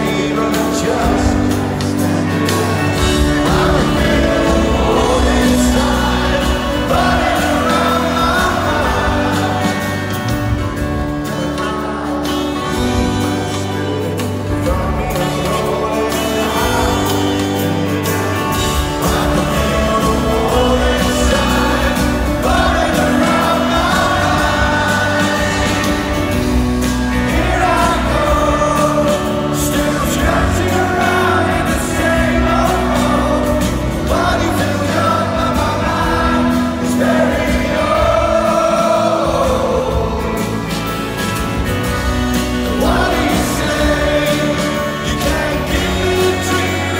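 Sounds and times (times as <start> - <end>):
person singing: 0.0 - 41.4, 42.4 - 46.9
bass guitar: 0.0 - 46.9
guitar: 0.0 - 46.9.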